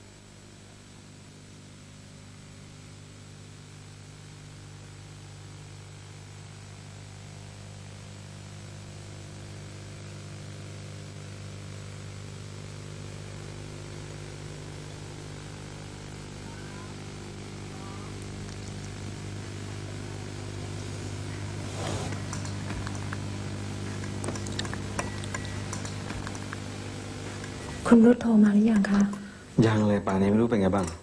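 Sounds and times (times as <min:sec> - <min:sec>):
low hum with faint hiss: 0:00.0 - 0:31.0.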